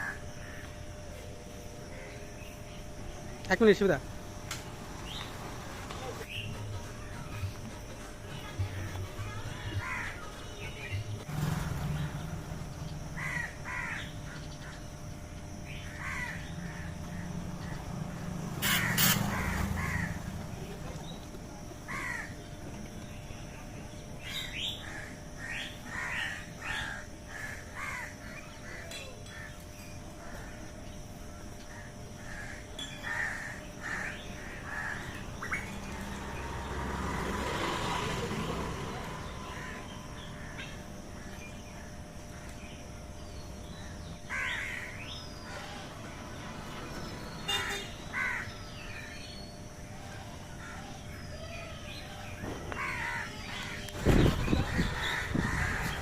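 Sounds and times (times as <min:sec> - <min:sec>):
birds calling: 0:04.9 - 0:23.4, 0:24.2 - 0:56.0.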